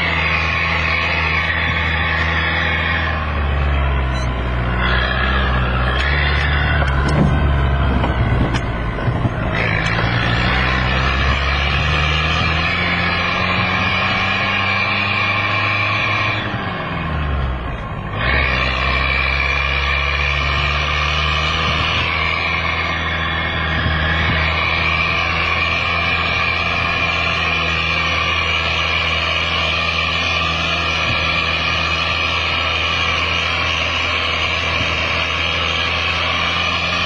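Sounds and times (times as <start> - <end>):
engine running inside cab: 0.0 - 37.0
steady rushing noise: 0.0 - 37.0.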